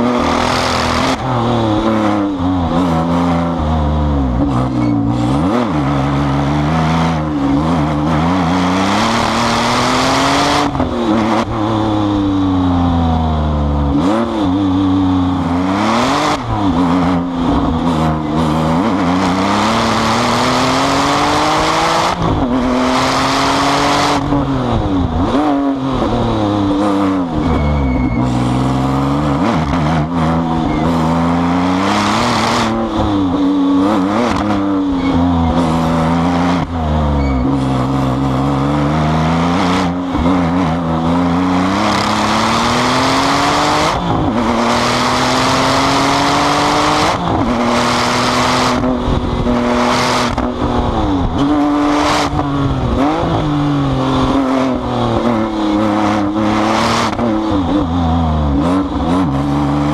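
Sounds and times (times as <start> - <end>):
sports car engine accelerating: 0.0 - 59.9.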